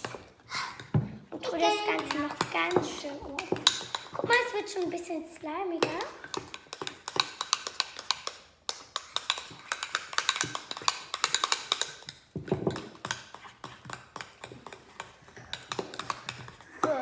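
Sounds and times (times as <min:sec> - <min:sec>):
spoons scraping mixing bowls: 0:00.0 - 0:17.0.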